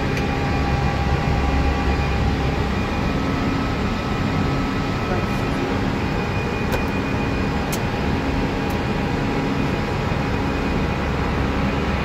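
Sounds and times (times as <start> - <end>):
aircraft engine and airflow rumble: 0.0 - 12.0.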